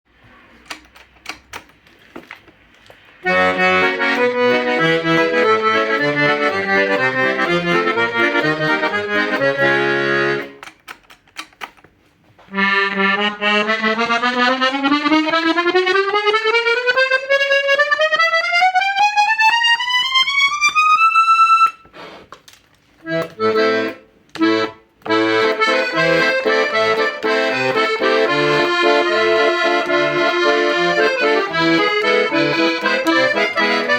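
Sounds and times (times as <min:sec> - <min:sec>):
piano accordion playing: 0:03.2 - 0:10.7, 0:12.5 - 0:22.2, 0:23.0 - 0:33.9.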